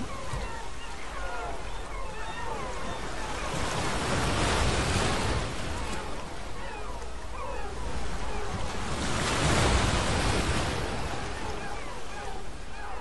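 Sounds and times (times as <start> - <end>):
surf washing: 0.0 - 12.7
gulls screeching: 0.0 - 13.0
wind: 0.0 - 13.0.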